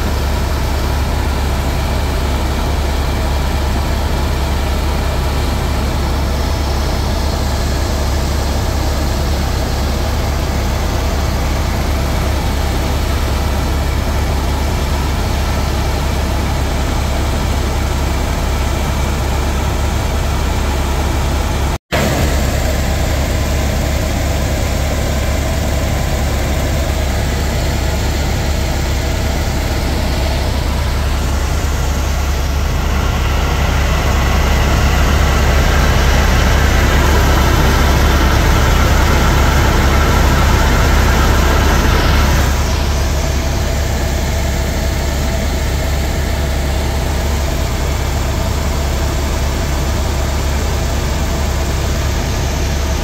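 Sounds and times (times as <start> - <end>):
helicopter rotor and engine drone: 0.0 - 53.0.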